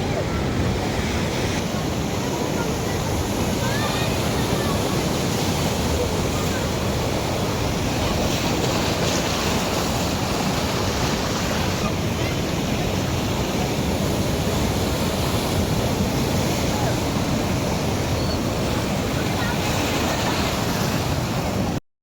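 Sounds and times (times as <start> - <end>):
sea waves breaking: 0.0 - 21.8
wind blowing: 0.0 - 21.8.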